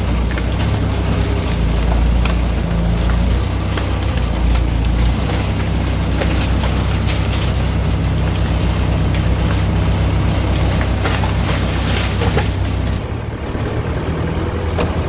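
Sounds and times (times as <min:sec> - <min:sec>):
sharp clicks and cracks: 0:00.0 - 0:13.1
engine humming: 0:00.0 - 0:15.0.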